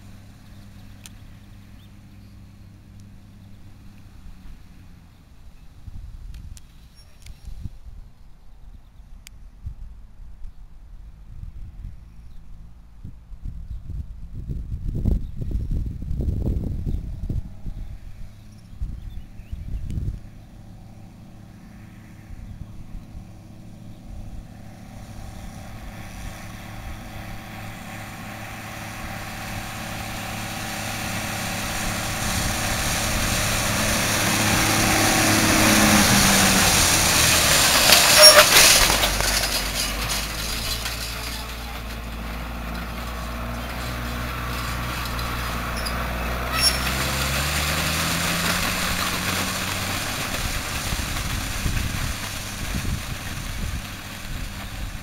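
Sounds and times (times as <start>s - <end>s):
tractor diesel engine: 0.0s - 6.1s, 16.3s - 55.0s.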